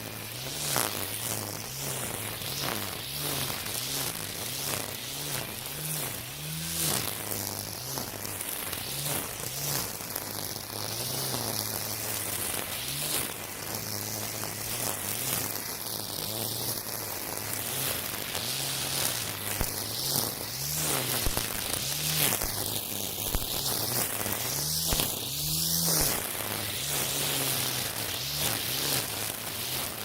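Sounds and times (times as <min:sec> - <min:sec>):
string trimmer cutting weeds: 0:00.0 - 0:30.0.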